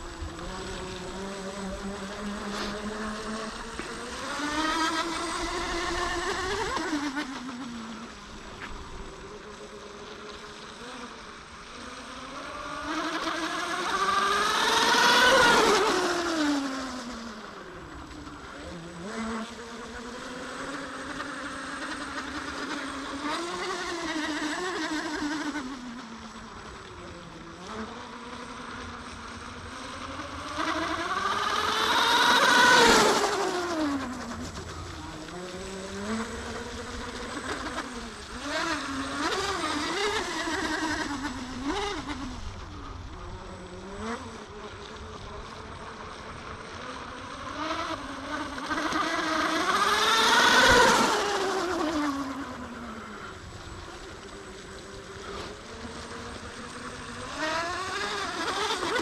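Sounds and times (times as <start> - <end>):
model boat motors whining: 0.0 - 59.0.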